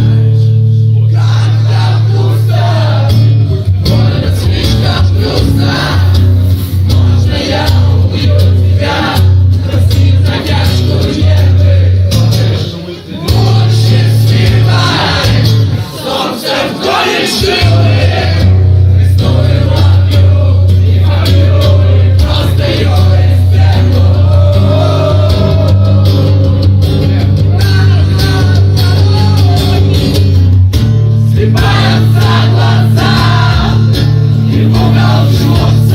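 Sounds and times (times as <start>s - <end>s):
man singing: 0.0s - 6.2s, 6.8s - 30.3s, 31.3s - 35.9s
acoustic guitar: 0.0s - 35.9s.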